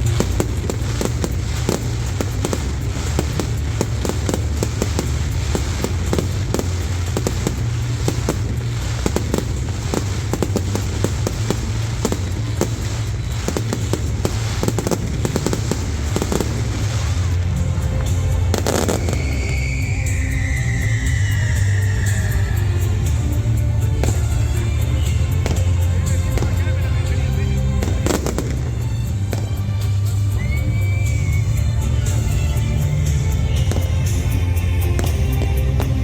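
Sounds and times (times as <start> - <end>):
fireworks crackling and banging: 0.0 - 36.0
music: 0.0 - 36.0.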